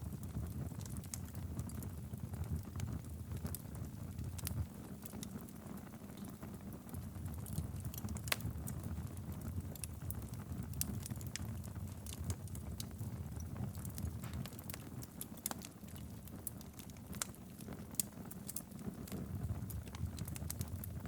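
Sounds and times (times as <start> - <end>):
fire flames rumbling: 0.0 - 21.0
wood fire crackling and popping: 0.0 - 21.0.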